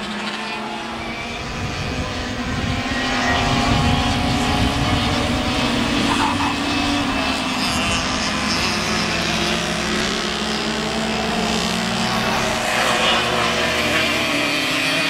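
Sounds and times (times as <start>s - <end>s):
kart engines buzzing: 0.0s - 15.0s.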